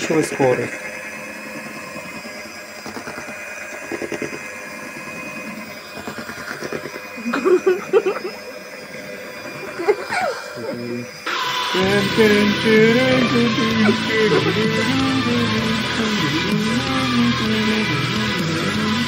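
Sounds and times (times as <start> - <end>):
electric hand mixer whining: 0.0 - 19.0.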